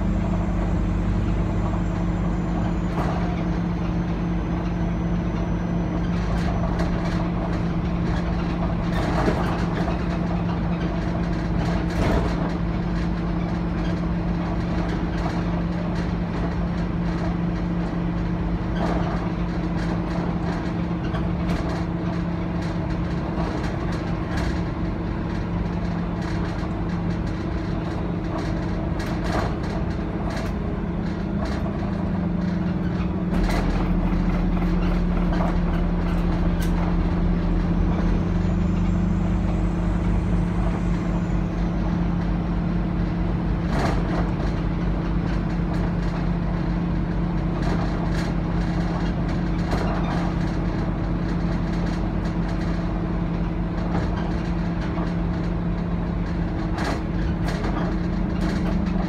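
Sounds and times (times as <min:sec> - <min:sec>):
bus diesel engine drone: 0:00.0 - 0:59.0
bodywork rattles and knocks: 0:06.0 - 0:38.7, 0:42.0 - 0:59.0.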